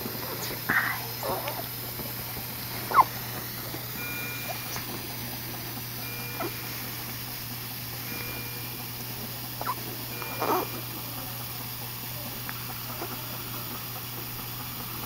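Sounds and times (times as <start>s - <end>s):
equipment low hum: 0.0s - 15.0s.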